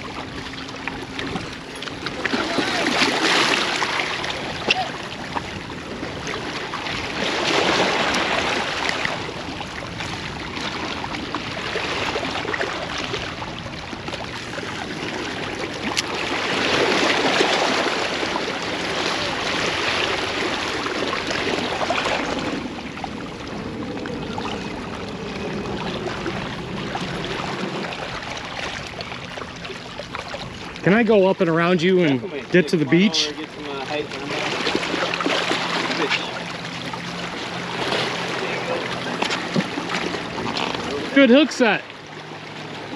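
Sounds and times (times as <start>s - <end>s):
ocean surf on beach: 0.0s - 42.9s.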